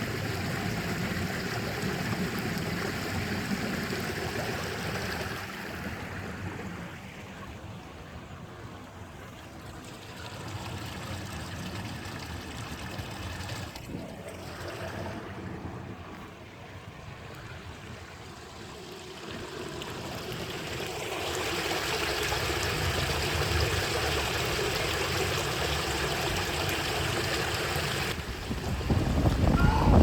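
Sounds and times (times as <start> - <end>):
stream water running: 0.0 - 30.0.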